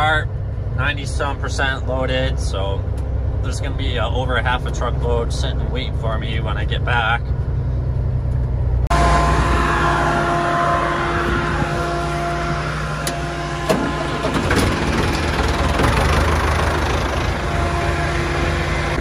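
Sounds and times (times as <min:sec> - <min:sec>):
steady whine: 0:00.0 - 0:19.0
tractor engine running: 0:00.0 - 0:19.0
truck engine rumble from cab: 0:00.0 - 0:19.0.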